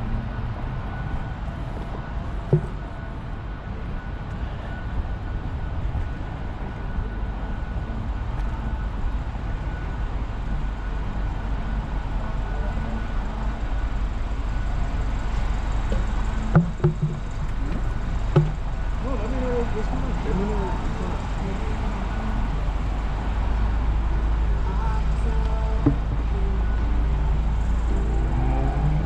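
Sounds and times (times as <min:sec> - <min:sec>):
faint steady high tone: 0:00.0 - 0:29.0
low rumble of traffic: 0:00.0 - 0:29.0.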